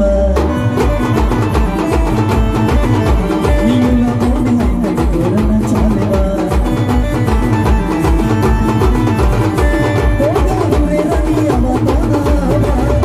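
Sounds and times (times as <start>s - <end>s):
band playing dance music: 0.0s - 13.0s
bass drums beating fast: 0.0s - 13.0s.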